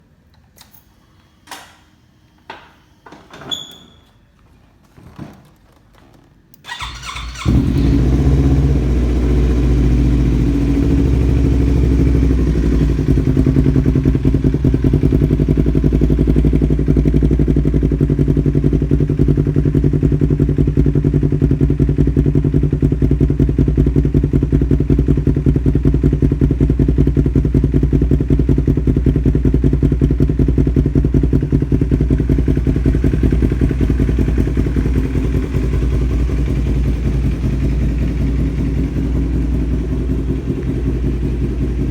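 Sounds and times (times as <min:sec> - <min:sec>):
motorcycle engine idling: 0:06.6 - 0:41.9.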